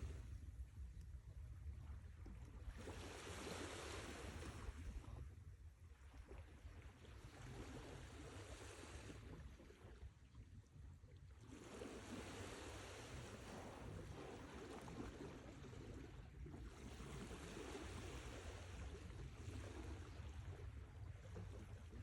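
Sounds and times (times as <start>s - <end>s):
faint sea waves: 0.0s - 22.0s.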